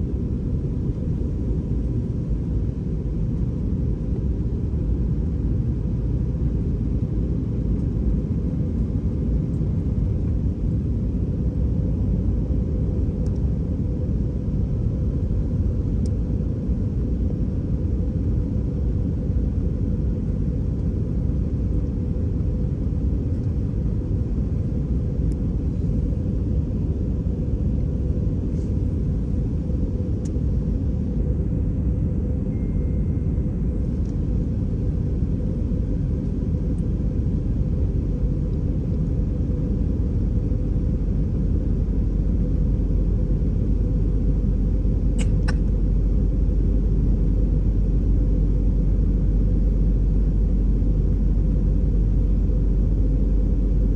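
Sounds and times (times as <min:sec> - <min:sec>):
aircraft cabin drone: 0:00.0 - 0:53.9
faint steady hum: 0:00.0 - 0:53.9.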